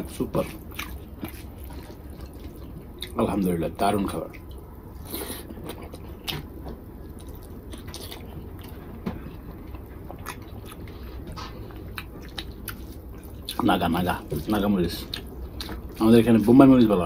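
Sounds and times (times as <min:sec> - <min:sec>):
person chewing food: 0:00.0 - 0:03.2, 0:04.1 - 0:16.1
low steady hum: 0:00.0 - 0:17.0.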